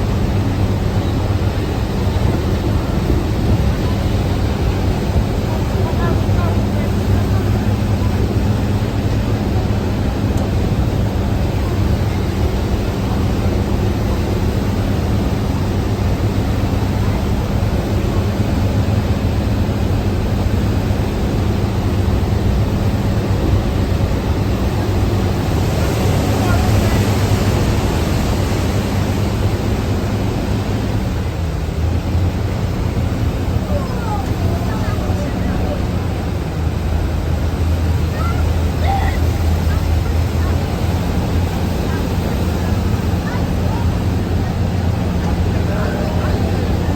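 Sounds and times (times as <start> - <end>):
boat engines droning: 0.0 - 46.9
constant rushing noise: 0.0 - 46.9.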